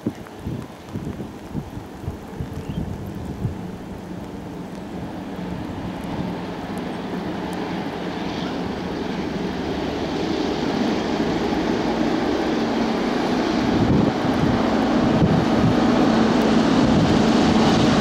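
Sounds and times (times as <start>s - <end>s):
wind on microphone: 0.0s - 18.0s
diesel locomotive engines humming: 1.9s - 18.0s.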